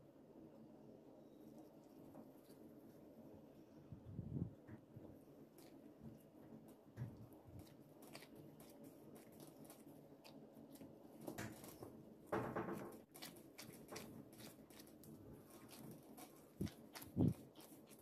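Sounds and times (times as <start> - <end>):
soft squishing of kneaded dough: 0.0 - 18.0.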